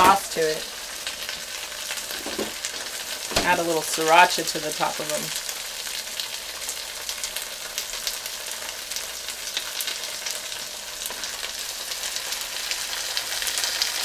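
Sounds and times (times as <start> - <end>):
meatballs sizzling in a skillet: 0.0 - 14.0
pasta frying in butter: 0.0 - 14.0.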